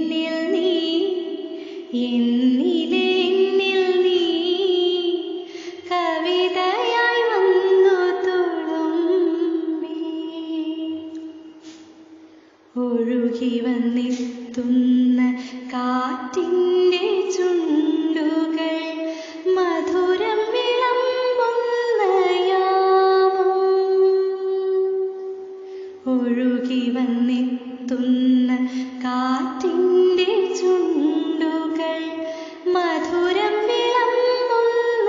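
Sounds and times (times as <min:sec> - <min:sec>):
woman singing slow melody: 0:00.0 - 0:12.1, 0:12.7 - 0:35.0.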